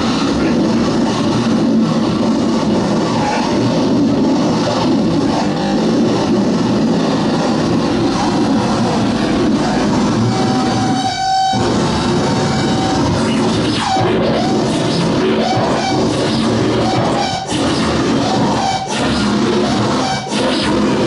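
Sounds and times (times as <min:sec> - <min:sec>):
harsh distorted noise music: 0:00.0 - 0:21.0
steady held tone: 0:00.0 - 0:21.0.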